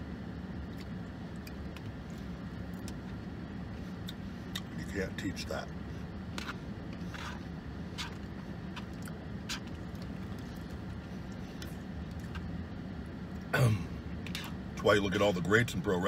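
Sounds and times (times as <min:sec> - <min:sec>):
car engine idling hum: 0:00.0 - 0:16.0.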